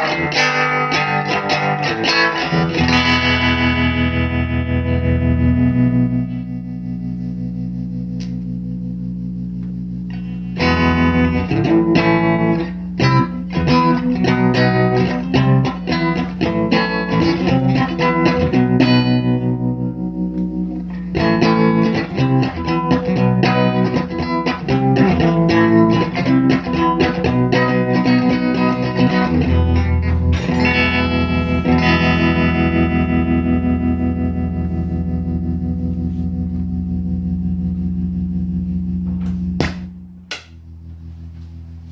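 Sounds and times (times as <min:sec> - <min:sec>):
electric guitar notes: 0:00.0 - 0:41.9.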